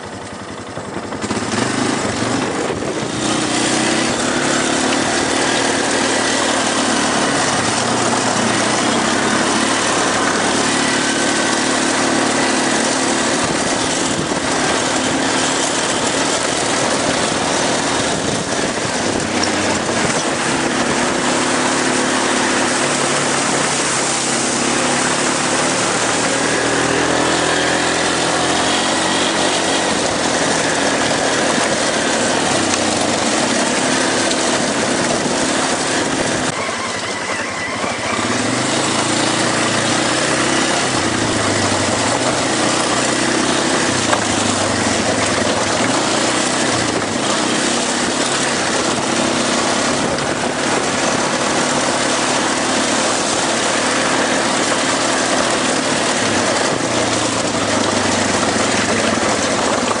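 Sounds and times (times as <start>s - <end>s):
atv engine revving: 0.0s - 60.0s
steady rushing noise: 0.0s - 60.0s.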